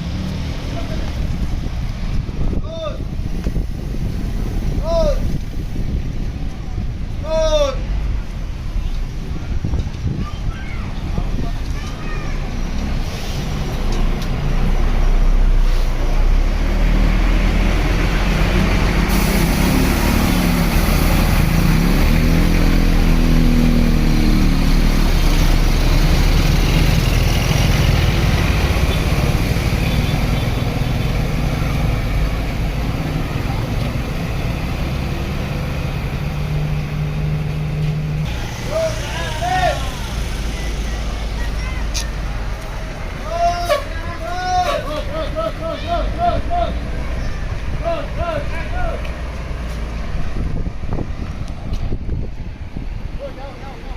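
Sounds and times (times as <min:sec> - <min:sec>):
bus engine rumbling: 0:00.0 - 0:53.9.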